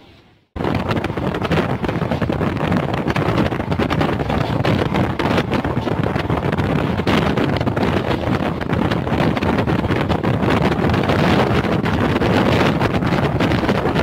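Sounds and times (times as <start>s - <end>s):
train running along track: 0.0s - 14.0s
wind rushing through train window: 0.0s - 14.0s.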